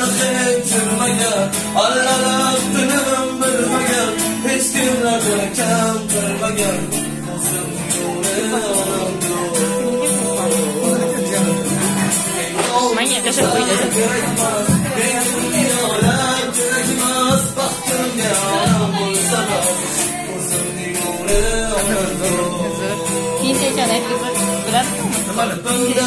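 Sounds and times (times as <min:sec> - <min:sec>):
acoustic guitar strumming: 0:00.0 - 0:26.0
man singing a slow song: 0:00.0 - 0:26.0.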